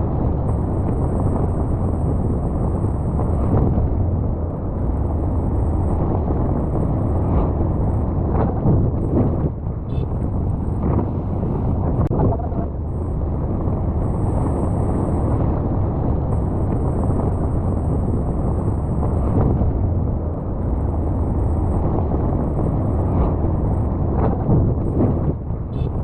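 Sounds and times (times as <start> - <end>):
road and engine noise: 0.0 - 26.0
wind buffeting microphone: 0.0 - 26.0.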